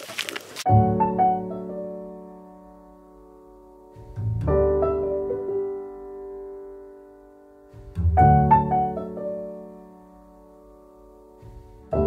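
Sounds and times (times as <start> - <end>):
slow piano chords: 0.6 - 12.0.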